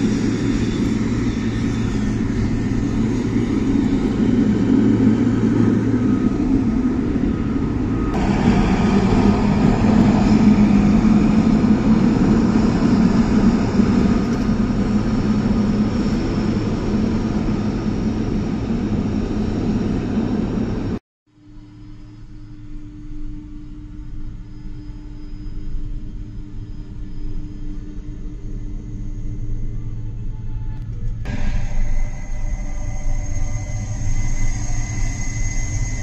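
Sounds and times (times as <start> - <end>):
jet engines rumbling: 0.0 - 21.0, 25.5 - 36.0.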